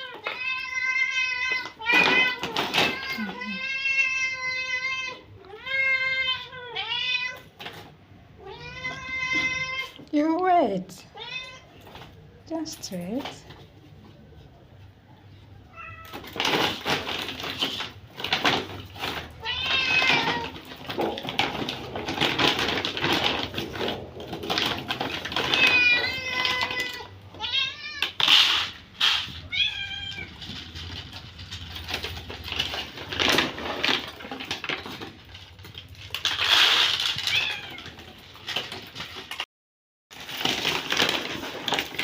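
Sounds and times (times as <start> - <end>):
cats meowing: 0.0 - 10.1, 11.0 - 12.2, 15.5 - 39.2
rustling and handling noises: 0.0 - 39.5, 40.1 - 42.0.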